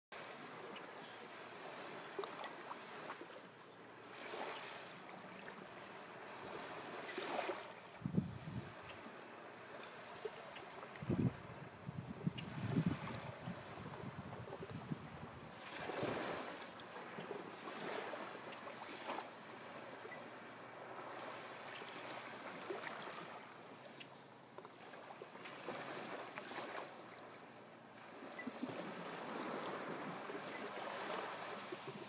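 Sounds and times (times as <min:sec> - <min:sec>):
small waves breaking on beach: 0:00.2 - 0:32.0.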